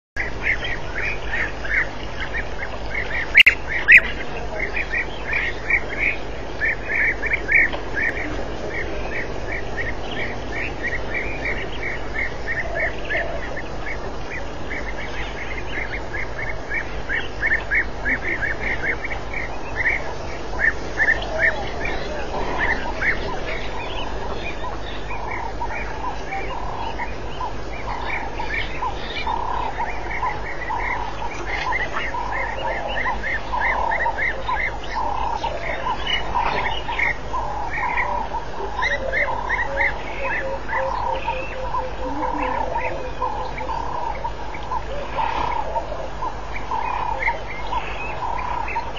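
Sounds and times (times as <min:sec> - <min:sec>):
high chirping animal calls: 0:00.2 - 0:48.9
lower animal calls: 0:00.2 - 0:48.9.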